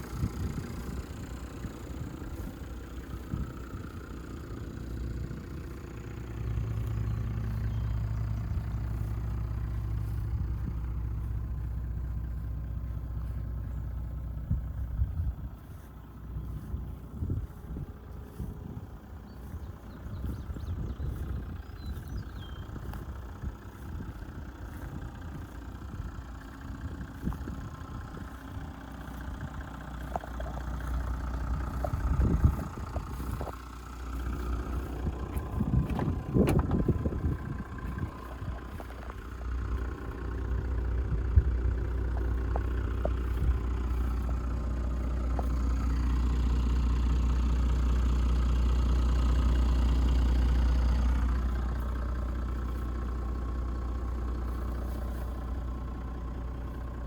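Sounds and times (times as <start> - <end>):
diesel engine idling: 0.0 - 57.0
engine knocks: 0.0 - 57.0.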